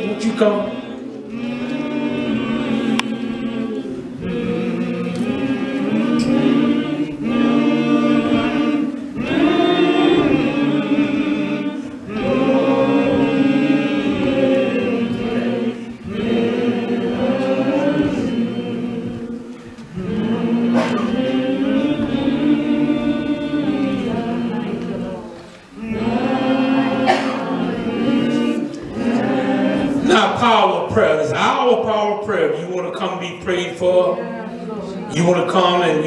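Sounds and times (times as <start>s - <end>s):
choir singing a hymn: 0.0s - 36.0s.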